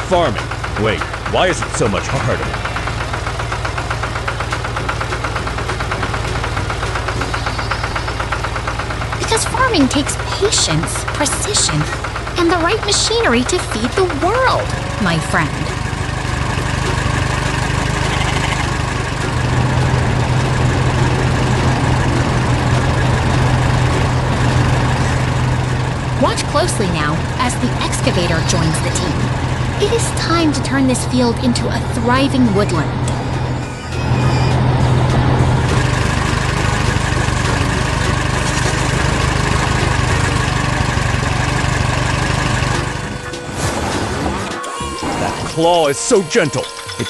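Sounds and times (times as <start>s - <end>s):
heavy machine engine humming: 0.0s - 47.0s.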